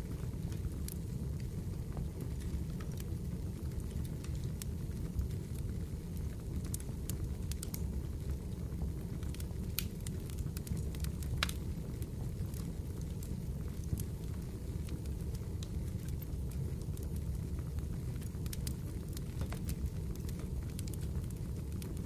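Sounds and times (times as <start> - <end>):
burning wood rumble: 0.0 - 22.0
fire pops and crackles: 0.0 - 22.0.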